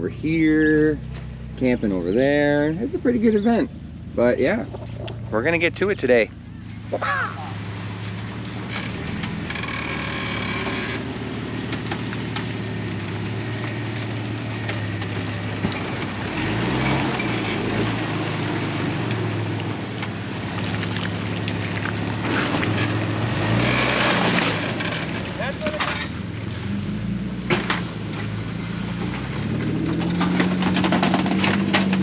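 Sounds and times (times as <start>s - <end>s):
car engine running and revving: 0.0s - 32.0s.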